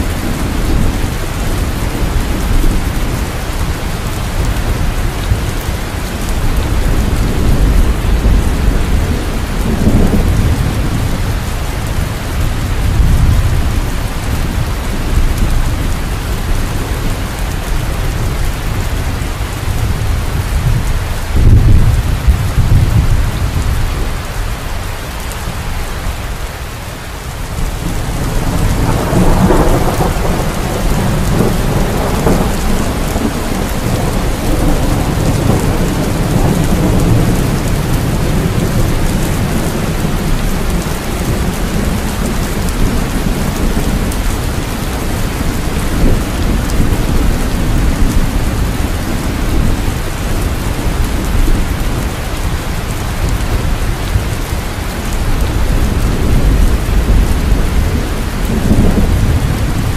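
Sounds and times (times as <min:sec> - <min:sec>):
rolling thunder: 0:00.0 - 0:24.4, 0:27.5 - 0:59.9
heavy rain: 0:00.0 - 0:59.9.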